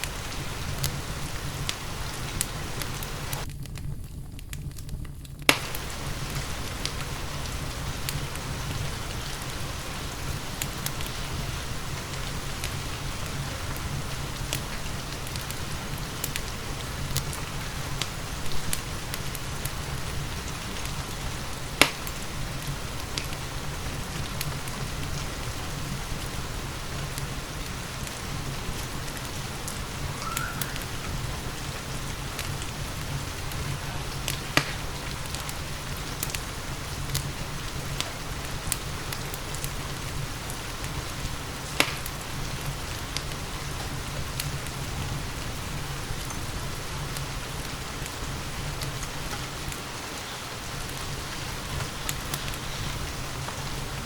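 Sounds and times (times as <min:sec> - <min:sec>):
fire pops: 0:00.0 - 0:54.0
steady rain: 0:00.0 - 0:54.0
wood fire crackling: 0:00.0 - 0:54.0.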